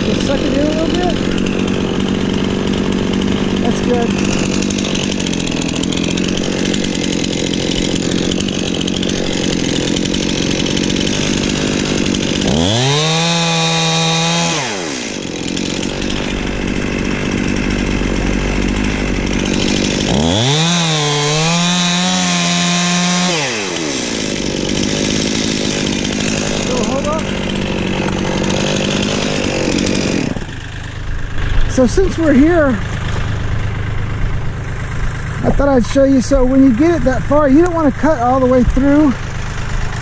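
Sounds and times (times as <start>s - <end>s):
chainsaw cutting tree trunk: 0.0s - 40.0s.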